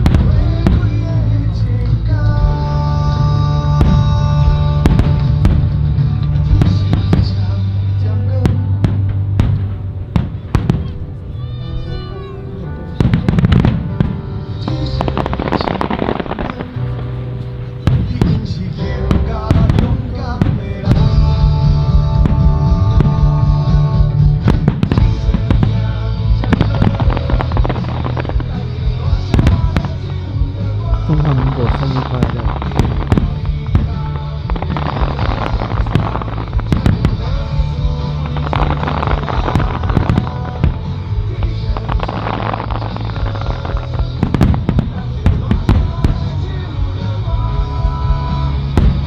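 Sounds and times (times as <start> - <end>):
music with held chords and bass: 0.0 - 9.8, 16.3 - 49.0
fireworks bangs: 0.0 - 49.0.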